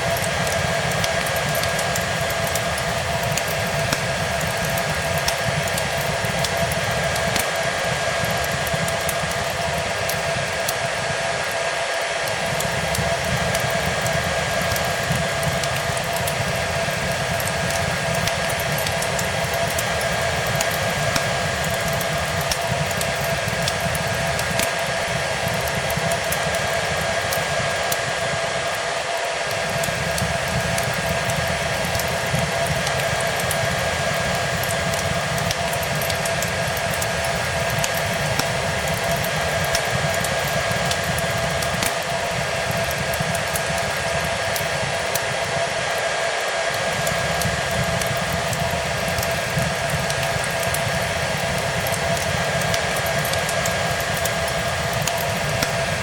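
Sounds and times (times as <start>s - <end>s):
fireplace crackling: 0.0s - 56.0s
hair dryer running: 0.0s - 56.0s.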